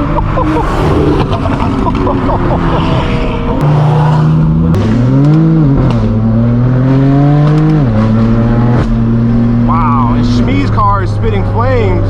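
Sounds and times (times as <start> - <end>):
car engine and exhaust droning: 0.0 - 12.0.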